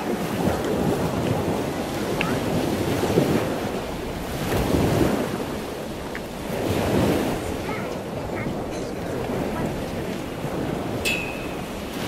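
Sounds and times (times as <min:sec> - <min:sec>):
water moving: 0:00.0 - 0:12.0
wind buffeting microphone: 0:00.0 - 0:12.0.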